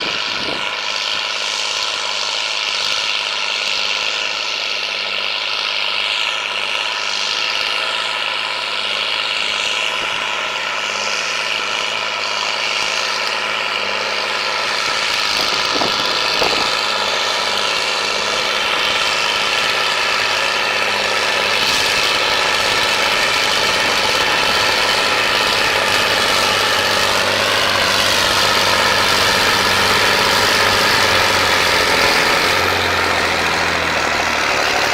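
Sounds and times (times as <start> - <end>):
diesel tractor engine running: 0.0 - 34.9.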